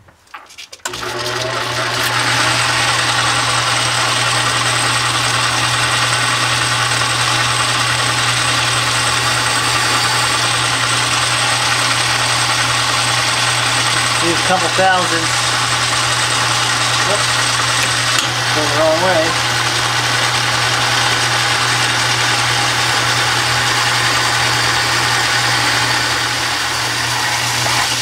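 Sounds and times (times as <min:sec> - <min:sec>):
lathe motor humming: 0:00.9 - 0:28.0.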